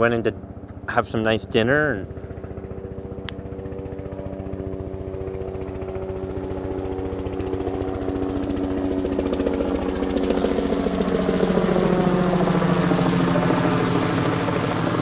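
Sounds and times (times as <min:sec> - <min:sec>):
aircraft engine pulsing: 0:00.0 - 0:15.0.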